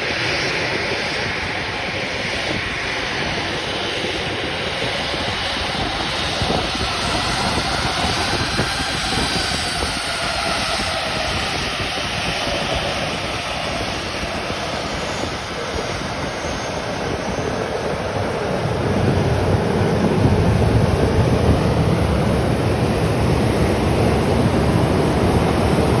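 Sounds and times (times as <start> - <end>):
deep jet rumble: 0.0 - 26.0
jet engines rushing: 0.0 - 26.0.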